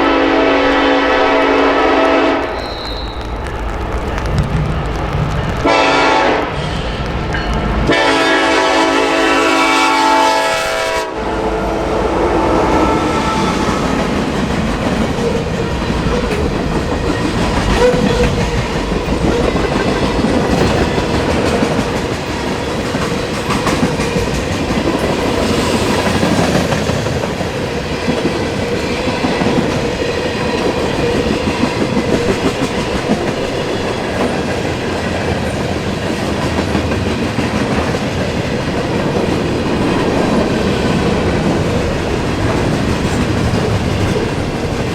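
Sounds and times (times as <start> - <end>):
freight train rumble: 0.0 - 44.9.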